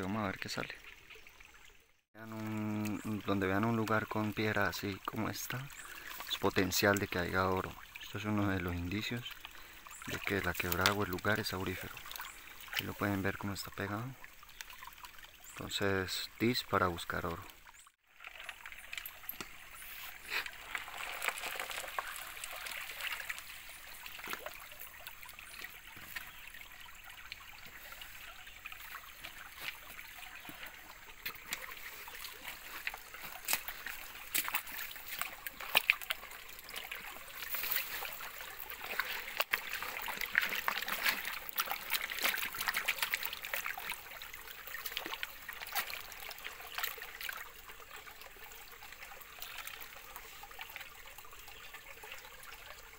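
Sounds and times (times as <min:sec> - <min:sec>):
flowing water trickling: 0:00.0 - 0:52.9
water splashing and sloshing: 0:00.0 - 0:52.9.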